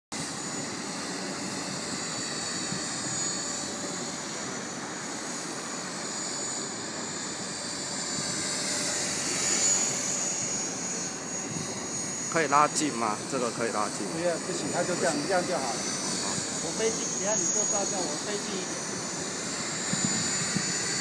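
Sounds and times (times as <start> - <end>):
rc helicopter whine: 0.1 - 21.0.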